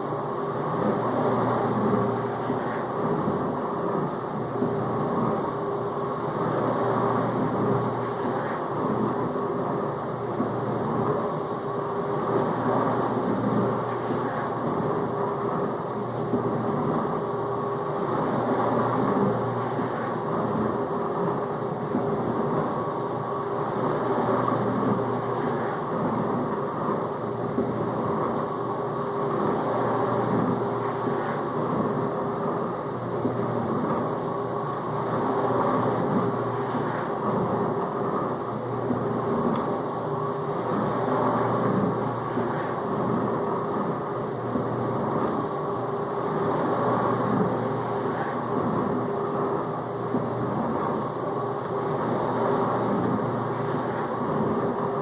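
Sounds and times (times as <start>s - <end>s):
dishwasher pump humming: 0.0s - 55.0s
water washing inside dishwasher: 0.0s - 55.0s.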